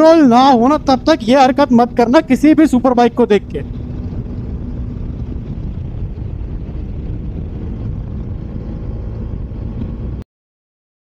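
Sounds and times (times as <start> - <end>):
motorcycle engine cruising: 0.0 - 10.2
wind rushing on microphone: 0.0 - 10.2.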